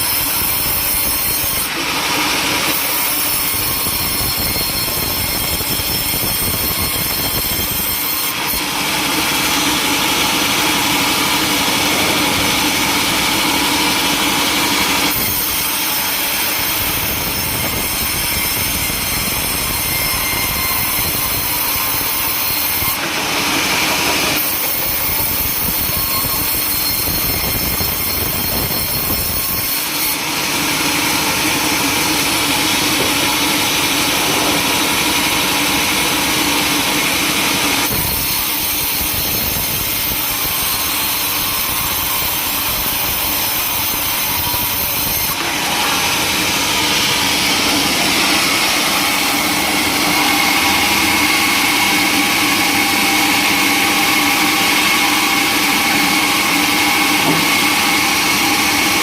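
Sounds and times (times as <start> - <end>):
sawmill saw cutting timber: 0.0 - 59.0.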